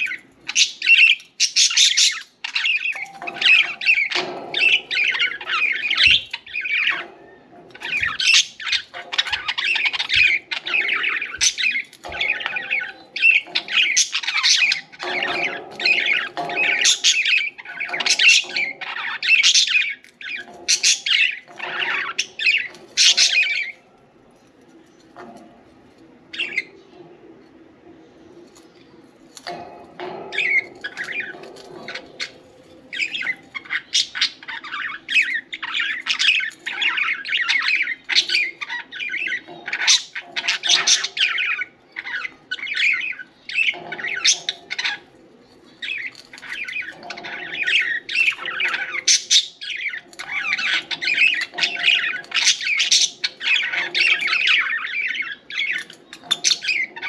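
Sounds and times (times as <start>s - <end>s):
budgies chattering and chirping: 0.0s - 57.0s.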